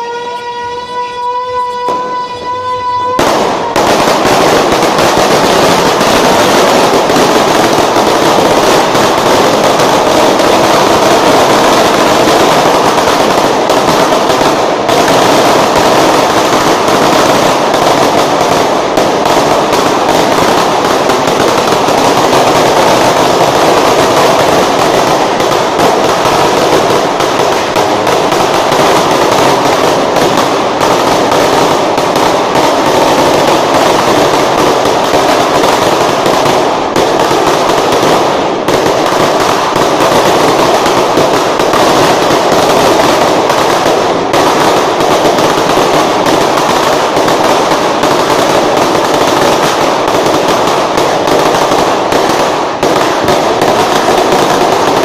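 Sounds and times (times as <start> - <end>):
firecrackers crackling: 0.0 - 55.0.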